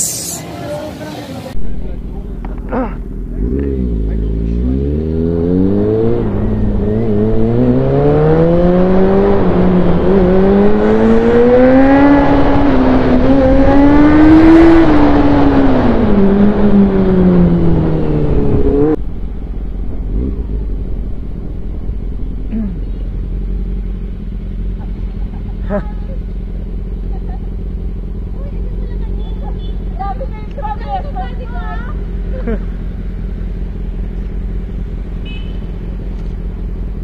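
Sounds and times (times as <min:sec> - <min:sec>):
motorcycle engine accelerating: 0:01.5 - 0:37.0.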